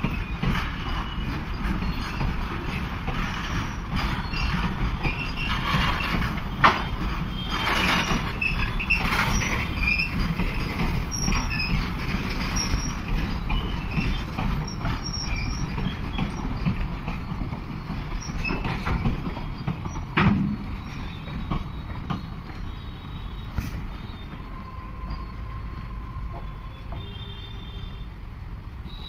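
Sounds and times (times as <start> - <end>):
wheels squealing: 0.0 - 28.1
train wagons rumbling and clattering: 0.0 - 29.0.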